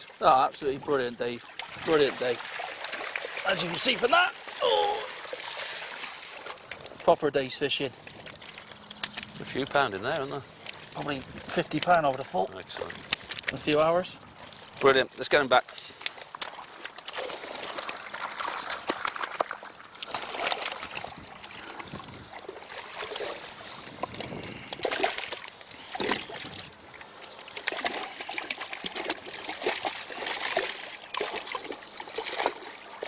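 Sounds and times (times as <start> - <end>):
water trickling and dribbling: 0.0 - 33.0
fish splashing: 1.3 - 14.9, 15.6 - 33.0.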